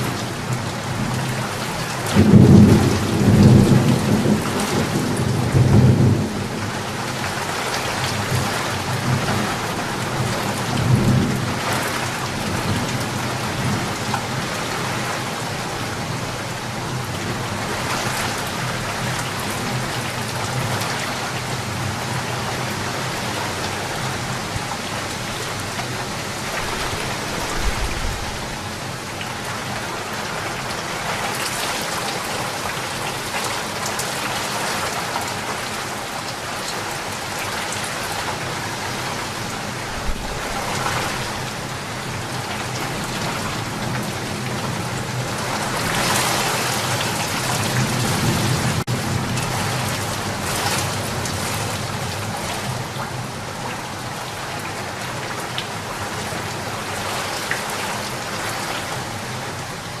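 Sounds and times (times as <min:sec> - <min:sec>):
rain pattering: 0:00.0 - 1:00.0.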